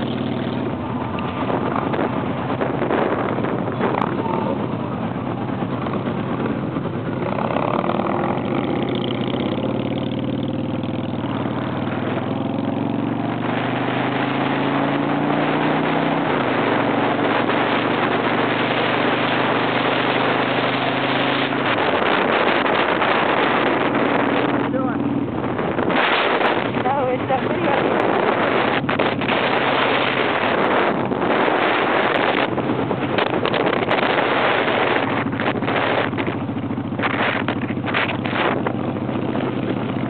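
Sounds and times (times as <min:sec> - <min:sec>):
motorcycle engine at speed: 0:00.0 - 0:40.0
wind rushing over microphone: 0:00.0 - 0:40.0.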